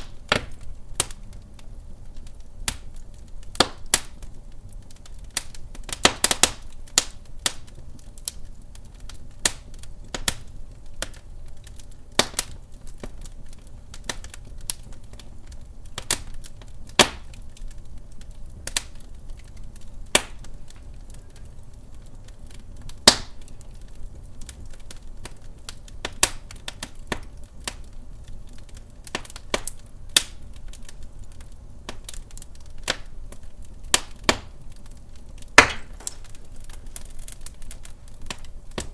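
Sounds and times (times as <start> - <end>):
low rumble of flame: 0.0 - 38.9
wood fire crackling and popping: 0.0 - 38.9.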